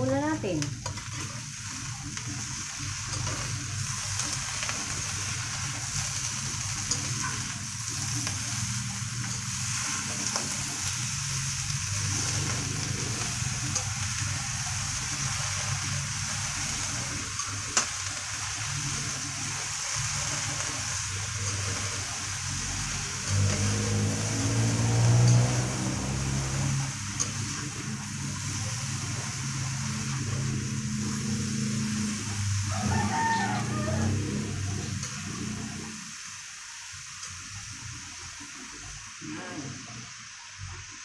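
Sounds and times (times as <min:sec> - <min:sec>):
vegetables sizzling in a wok: 0:00.0 - 0:41.0.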